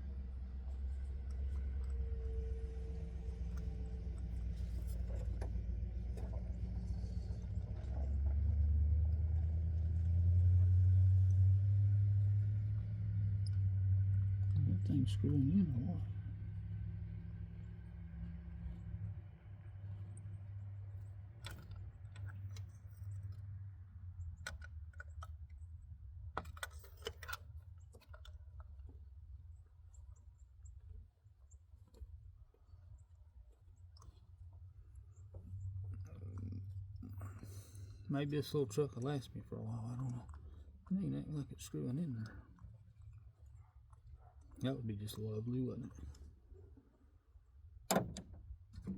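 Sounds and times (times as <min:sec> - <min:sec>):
engine rumble: 0:00.0 - 0:48.9
low steady hum: 0:00.0 - 0:48.9.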